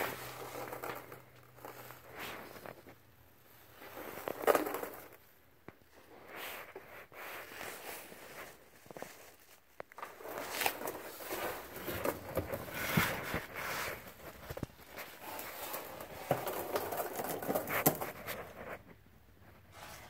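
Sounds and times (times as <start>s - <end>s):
rustling and scuffing on floor: 0.0s - 20.0s.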